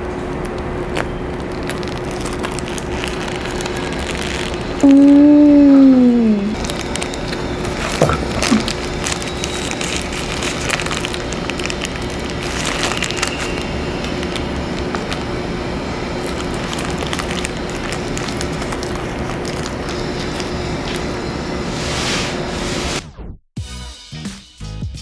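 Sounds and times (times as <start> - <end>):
burger being chewed: 0.0 - 21.4
faint steady hum: 0.0 - 22.7
paper wrapper crinkling: 0.3 - 15.4, 16.1 - 21.2.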